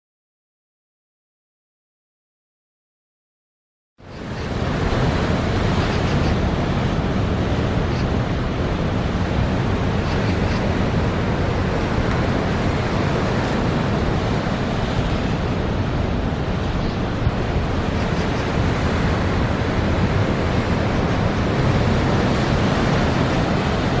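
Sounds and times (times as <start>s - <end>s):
wind buffeting microphone: 4.1s - 24.0s
storm surf breaking on rocks: 4.3s - 24.0s.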